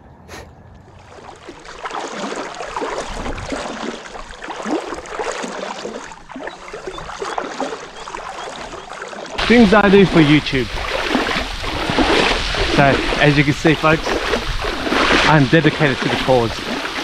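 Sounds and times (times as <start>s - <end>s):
legs wading through water: 0.8s - 17.0s.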